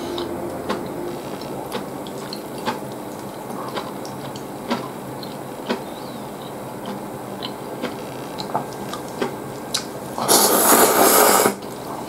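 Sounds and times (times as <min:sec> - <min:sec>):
wet chewing of noodles: 0:00.0 - 0:12.0.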